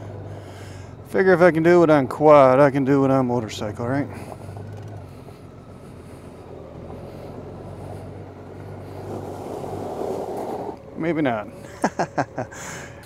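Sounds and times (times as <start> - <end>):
motorcycle engine low hum: 0.0 - 13.0
tyres on gravel: 0.1 - 12.9.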